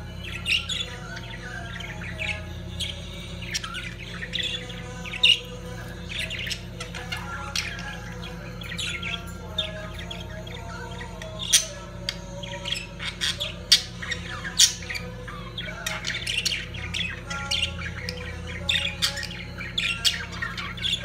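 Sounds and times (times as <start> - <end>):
budgerigars chirping and squawking: 0.0 - 21.0
steady low hum: 0.0 - 21.0.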